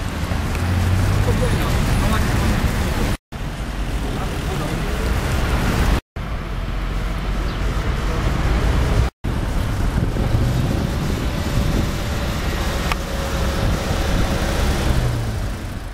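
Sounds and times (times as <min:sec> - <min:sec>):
passing cars rumble: 0:00.0 - 0:15.9.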